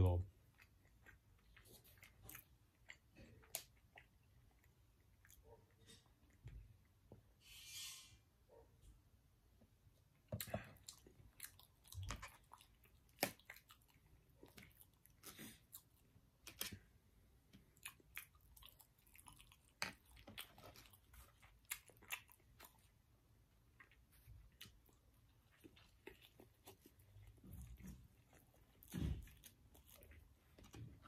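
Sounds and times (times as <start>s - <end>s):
chewing food with mouth clicks: 0.3s - 7.2s, 10.1s - 31.0s.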